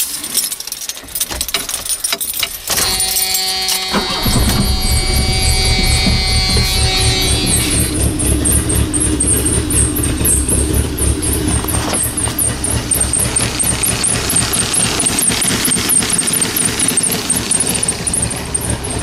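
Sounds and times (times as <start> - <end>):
car engine cranking and running: 0.0 - 19.0.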